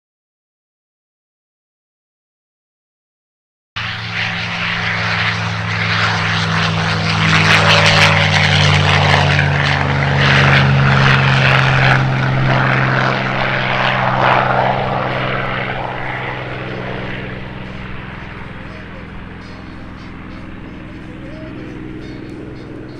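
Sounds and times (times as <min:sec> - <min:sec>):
propeller plane engine fly-by: 0:03.8 - 0:22.9.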